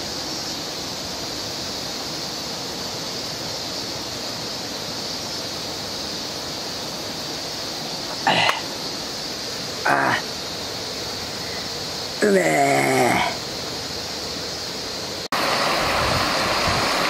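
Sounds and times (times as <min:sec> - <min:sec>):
constant high hiss: 0:00.0 - 0:17.0
river rushing: 0:00.0 - 0:17.0.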